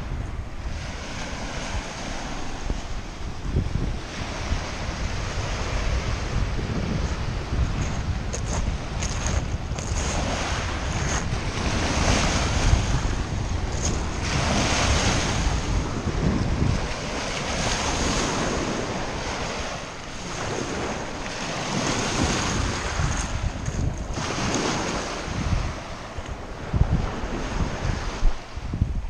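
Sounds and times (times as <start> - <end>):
wind buffeting microphone: 0.0 - 29.0
waves washing over pebbles: 0.7 - 26.1.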